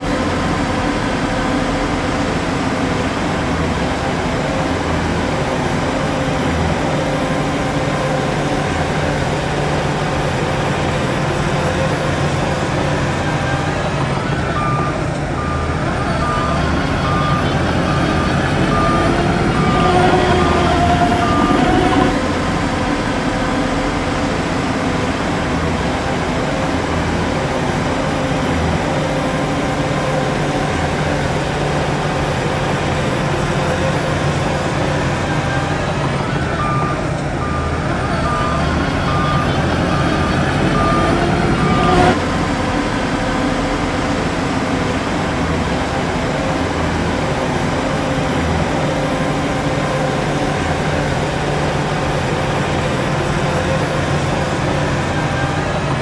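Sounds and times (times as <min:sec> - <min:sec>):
engine revving under load: 0:00.0 - 0:56.0
heavy diesel engines running: 0:00.0 - 0:56.0
reversing alarm beeping: 0:00.0 - 0:56.0.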